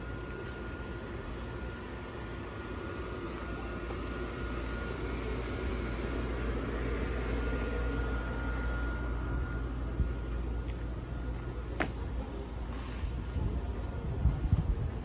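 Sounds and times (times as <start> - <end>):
city ambience rumble: 0.0 - 15.0.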